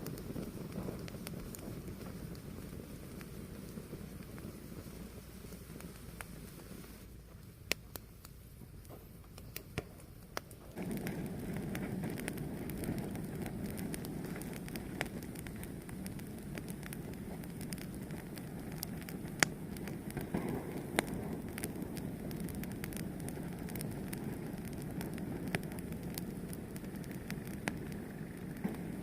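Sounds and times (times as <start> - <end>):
fire burning with crackles: 0.0 - 29.0.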